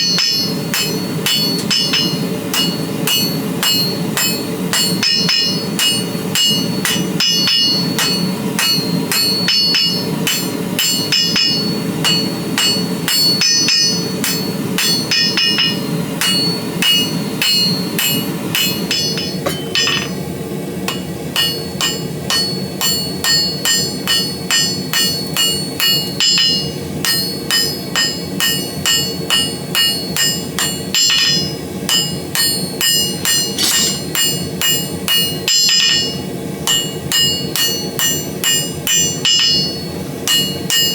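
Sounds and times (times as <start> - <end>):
hammer striking hot steel on anvil: 0.0 - 40.9.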